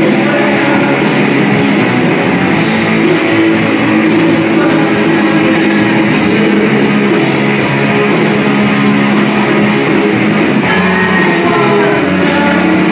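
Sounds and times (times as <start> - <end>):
live rock band playing: 0.0 - 12.9.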